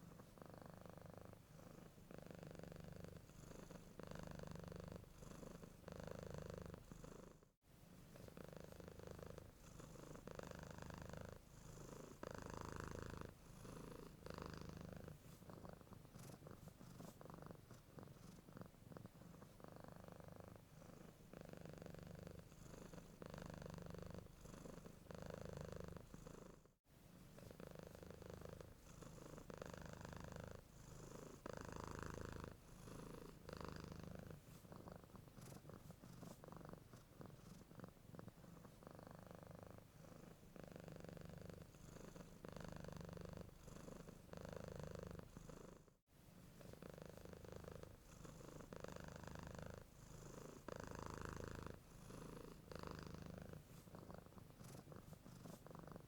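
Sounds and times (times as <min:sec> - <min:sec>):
cat purring softly: 0:00.0 - 0:56.0.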